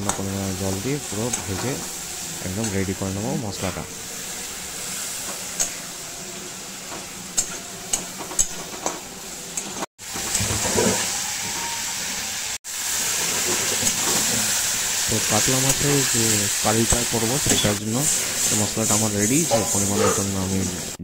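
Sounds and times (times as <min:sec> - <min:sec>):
masala sizzling in oil: 0:00.0 - 0:21.0.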